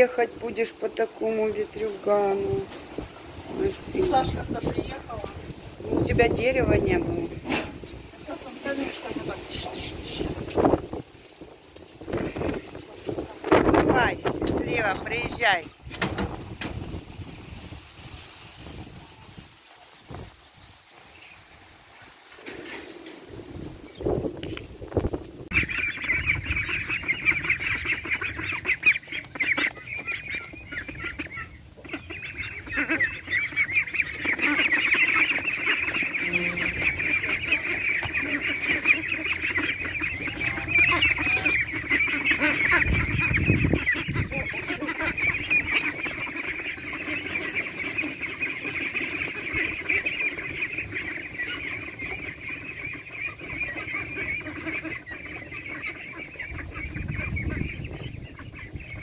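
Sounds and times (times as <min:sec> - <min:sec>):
poultry flock chattering: 0:00.0 - 0:17.3, 0:22.4 - 0:59.0.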